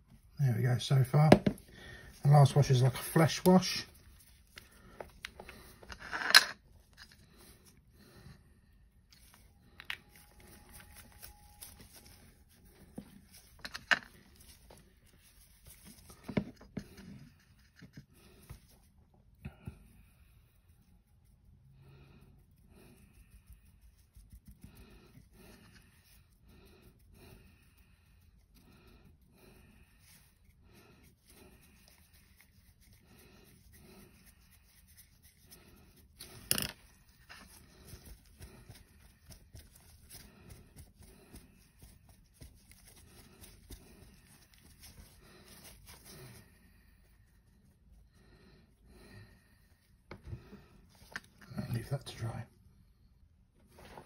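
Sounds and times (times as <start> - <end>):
paintbrush scratching: 0.9 - 18.9, 22.4 - 48.1.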